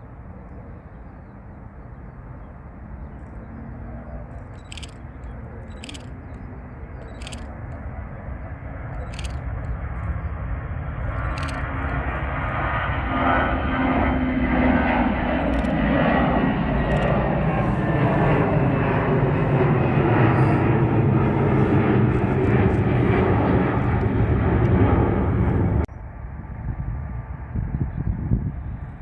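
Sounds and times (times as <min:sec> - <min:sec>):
airliner engine noise: 0:00.0 - 0:29.0.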